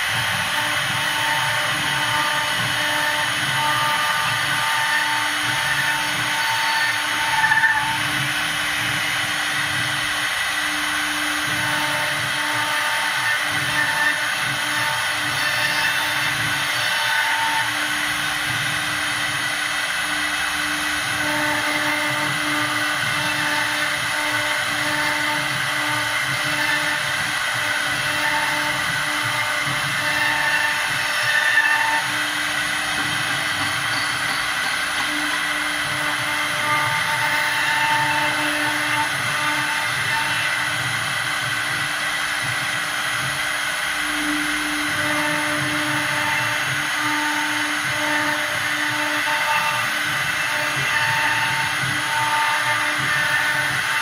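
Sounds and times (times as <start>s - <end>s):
router spindle whine: 0.0s - 54.0s.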